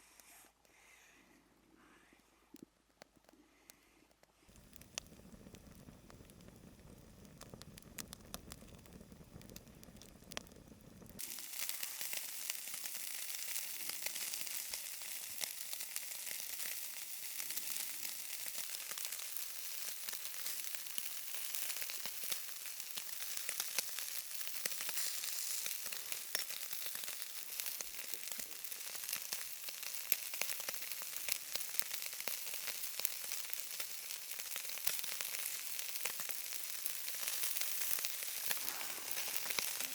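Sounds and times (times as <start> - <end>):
meat sizzling in a pan: 4.5 - 39.9.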